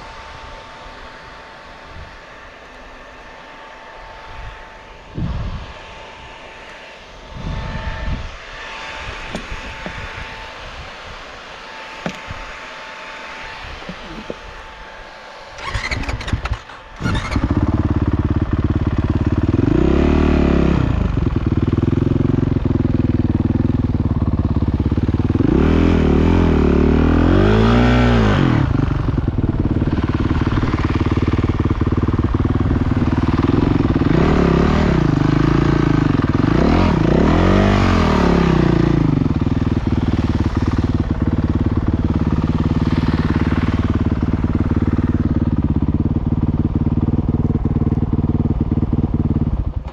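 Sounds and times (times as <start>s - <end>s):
motorcycle engine revving: 0.0s - 10.9s, 11.7s - 49.9s.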